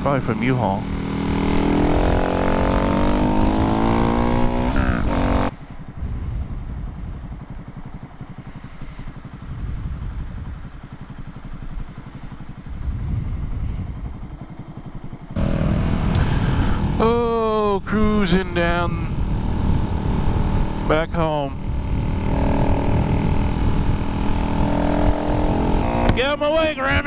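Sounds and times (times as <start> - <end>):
motorcycle engine accelerating: 0.0 - 27.0
motorcycle engine idling: 0.0 - 27.0.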